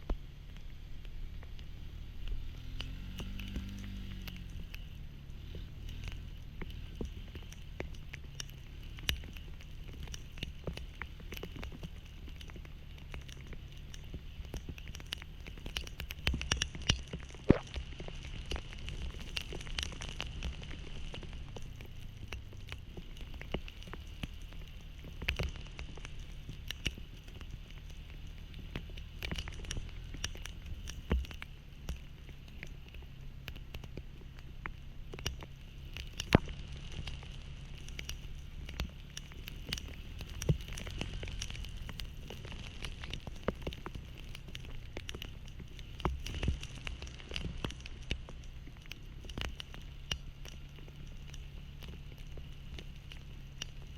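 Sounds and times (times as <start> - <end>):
heavy rain pattering: 0.0 - 53.9
low engine hum: 0.0 - 53.9
raindrops hitting microphone: 0.0 - 53.9.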